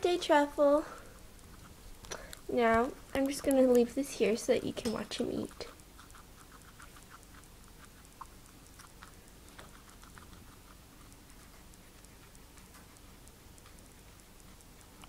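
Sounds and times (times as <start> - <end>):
guinea pig chewing: 0.0 - 15.0.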